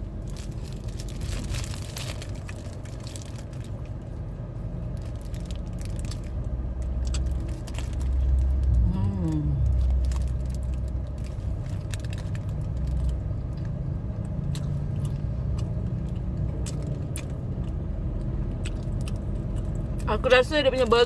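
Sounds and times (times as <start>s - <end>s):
person chewing crispy food: 0.0s - 20.0s
low engine rumble: 0.0s - 21.0s.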